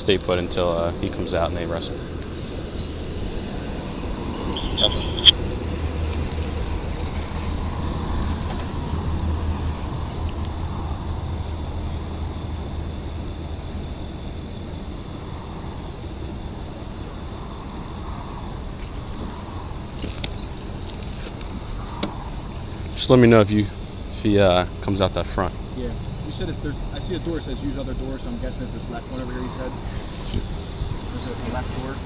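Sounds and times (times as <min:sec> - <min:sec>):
high pulsing chirps: 0:00.0 - 0:32.0
vehicle engine idling: 0:00.0 - 0:32.0.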